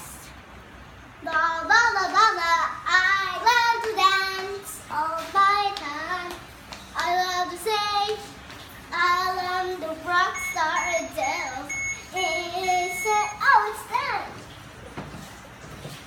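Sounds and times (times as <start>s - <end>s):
young girl singing: 1.2s - 14.4s.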